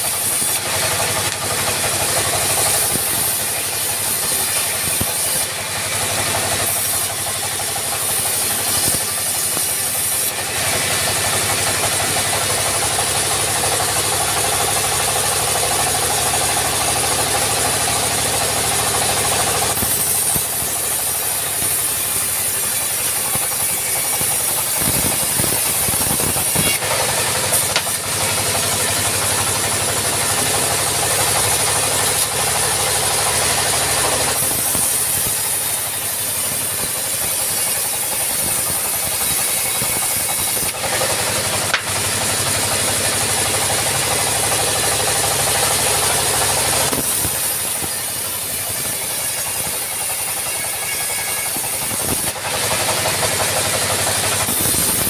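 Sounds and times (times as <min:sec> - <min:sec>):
engine hum: 0:00.0 - 0:50.4
saw blade cutting wood: 0:00.0 - 0:55.0.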